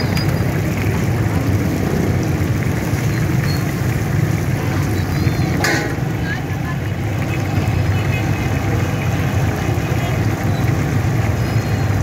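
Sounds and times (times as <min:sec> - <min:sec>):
oil bubbling and sizzling: 0:00.0 - 0:12.0.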